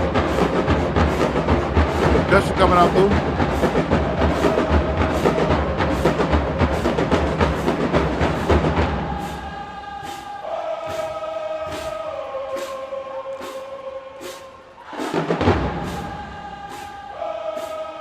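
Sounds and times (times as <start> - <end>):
marching band playing: 0.0 - 18.0.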